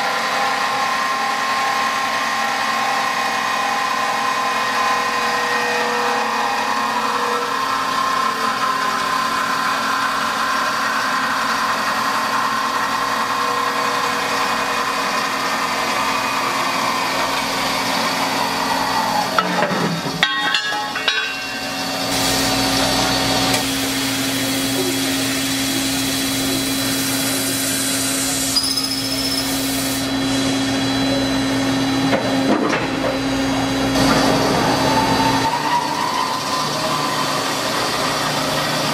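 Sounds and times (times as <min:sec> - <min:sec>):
band saw cutting steel: 0:00.0 - 0:32.0, 0:33.2 - 0:38.9.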